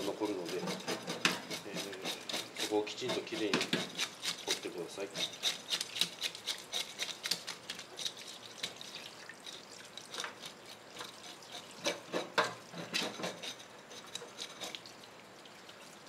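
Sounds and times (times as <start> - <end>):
fish scaler scraping scales: 0.0 - 14.8.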